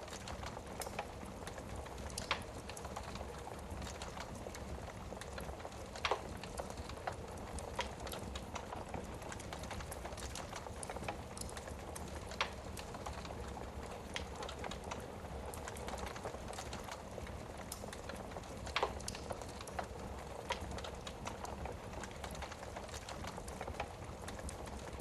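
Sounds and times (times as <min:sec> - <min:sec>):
fire crackling and popping: 0:00.0 - 0:25.0
fire rumble and hiss: 0:00.0 - 0:25.0.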